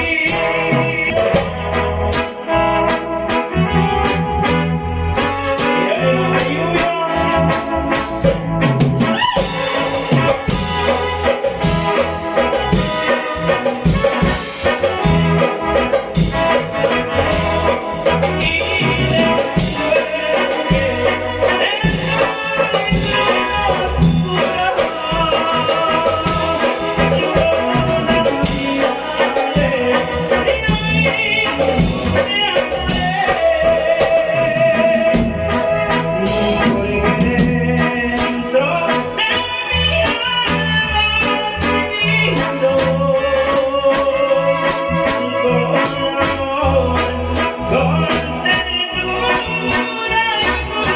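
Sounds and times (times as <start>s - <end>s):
band music with drum beat: 0.0s - 50.9s.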